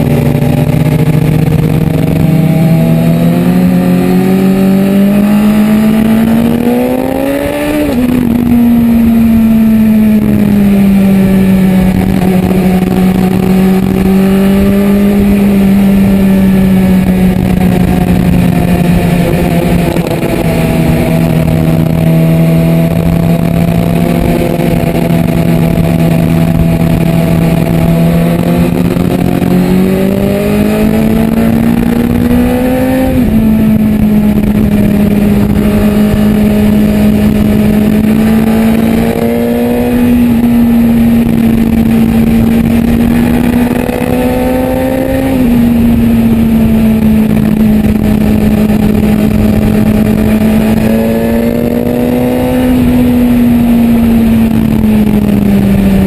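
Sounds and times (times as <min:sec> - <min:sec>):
motorcycle engine cruising: 0:00.0 - 0:56.0
wind rush: 0:00.0 - 0:56.0.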